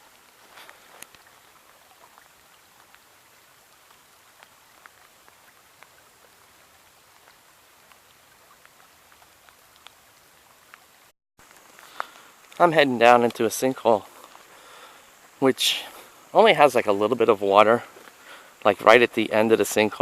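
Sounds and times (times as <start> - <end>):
soft steady hiss: 0.0 - 20.0.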